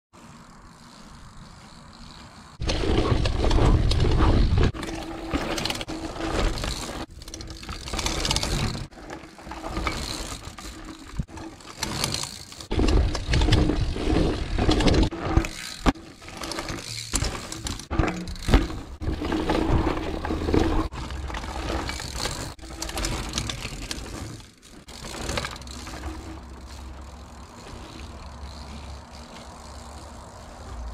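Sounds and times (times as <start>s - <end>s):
bike tyres on dirt: 0.1s - 30.9s
bike drivetrain rattling and clicking: 0.2s - 30.9s.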